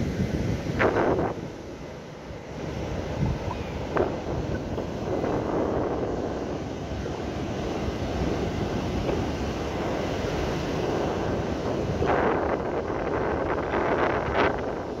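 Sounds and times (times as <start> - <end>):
small waves breaking on beach: 0.0 - 15.0
wind buffeting microphone: 0.0 - 15.0.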